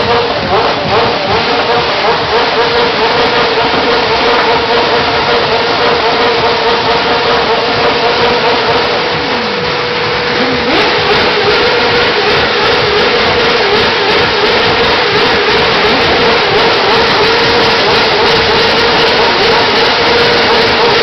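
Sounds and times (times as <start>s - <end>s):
fainter lower engine note: 0.0s - 21.0s
motorcycle engine running high: 0.0s - 21.0s.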